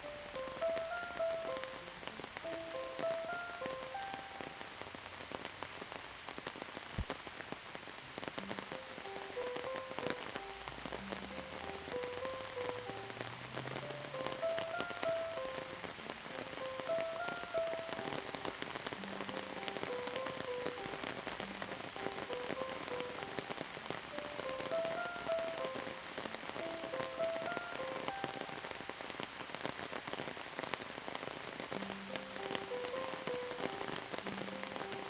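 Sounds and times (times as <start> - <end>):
soft slow melody: 0.0 - 5.0, 8.2 - 35.0
rain drops striking surface: 0.0 - 35.0.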